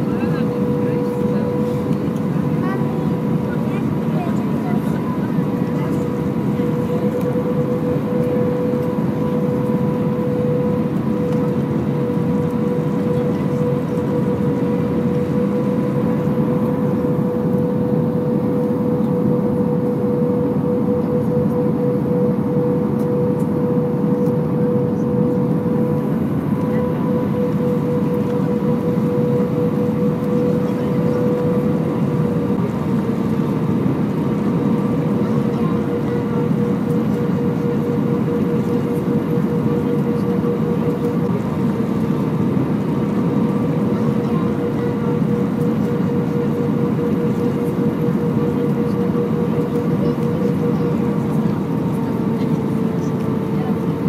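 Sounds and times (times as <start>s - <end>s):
airplane cabin airflow and engine noise: 0.0s - 54.0s.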